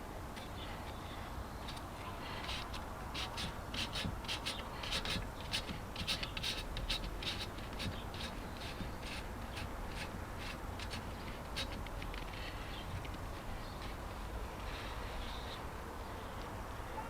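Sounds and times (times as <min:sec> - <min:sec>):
epoxy rubbing and scraping: 0:00.4 - 0:15.7.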